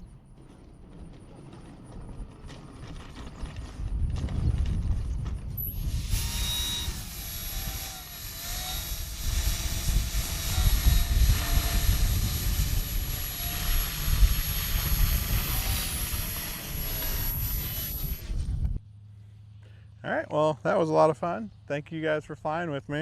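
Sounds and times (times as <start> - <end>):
electric motor and propeller whine: 0.0 - 18.8
wind rumble on microphone: 0.0 - 18.8.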